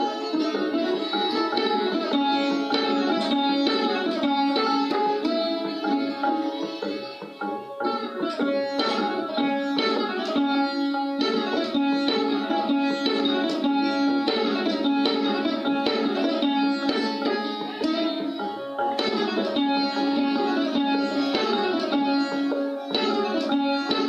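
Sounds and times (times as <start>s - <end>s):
plucked string instrument: 0.0s - 24.0s.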